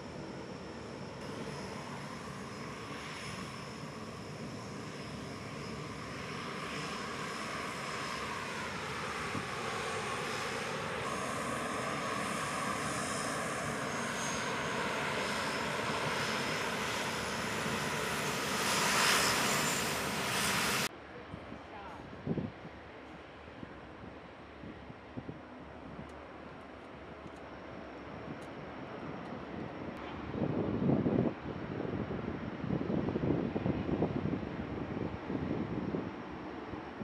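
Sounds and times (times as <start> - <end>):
turboprop engines and propellers: 0.0 - 37.0.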